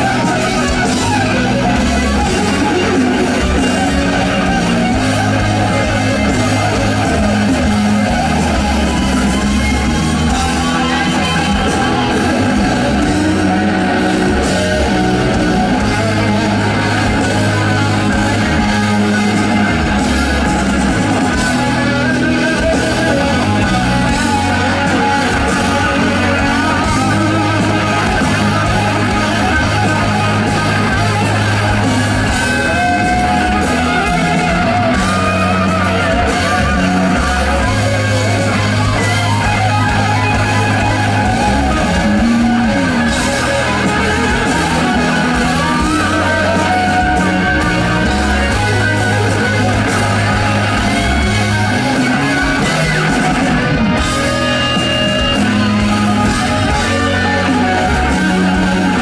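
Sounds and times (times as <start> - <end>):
bass and drums: 0.0 - 59.0
electric guitars playing lead lines: 0.0 - 59.0.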